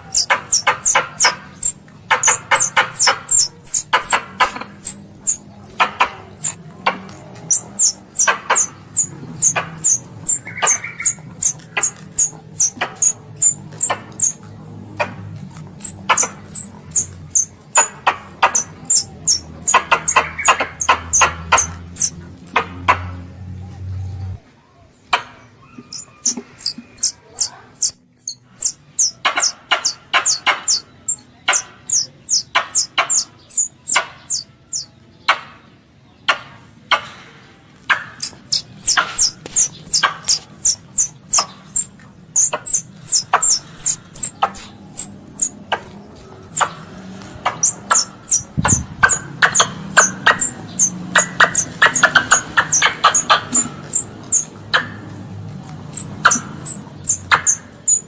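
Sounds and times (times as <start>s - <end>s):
high chirps of squirrel call: 0.0s - 14.4s, 15.0s - 22.7s, 25.6s - 34.9s, 37.9s - 55.0s, 55.9s - 58.0s
low background hum: 0.0s - 35.2s, 36.6s - 58.0s.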